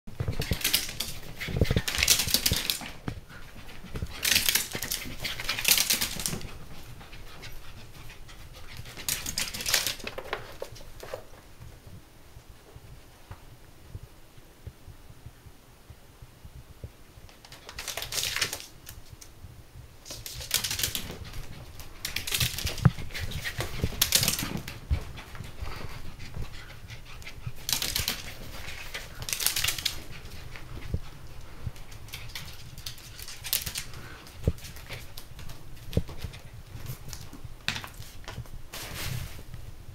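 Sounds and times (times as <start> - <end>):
dog paws clicking on wooden floor: 0.1 - 13.4, 17.2 - 19.4, 20.0 - 39.7.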